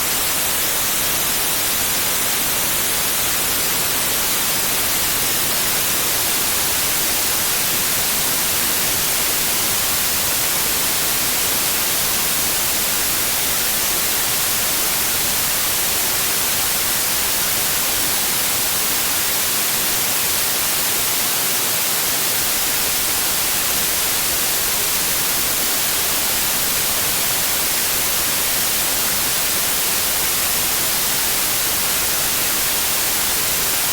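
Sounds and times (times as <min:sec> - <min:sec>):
steady pink noise hiss: 0:00.0 - 0:33.9.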